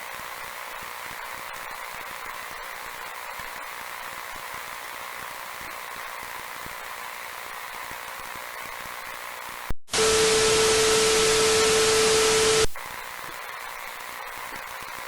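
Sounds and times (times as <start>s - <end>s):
static with steady tone: 0.0s - 15.0s.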